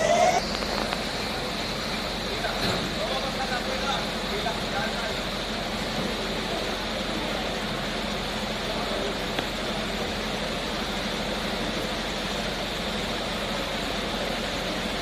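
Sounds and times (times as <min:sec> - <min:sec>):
fire engine motor idling: 0:00.0 - 0:15.0.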